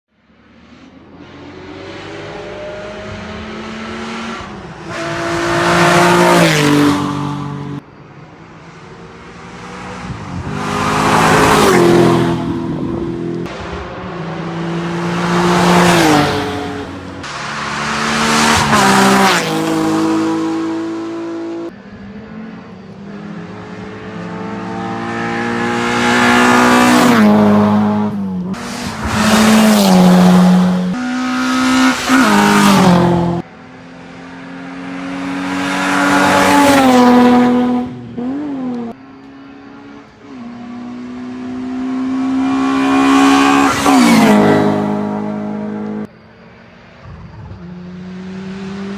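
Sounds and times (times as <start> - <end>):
race cars passing at full throttle: 0.2 - 48.9.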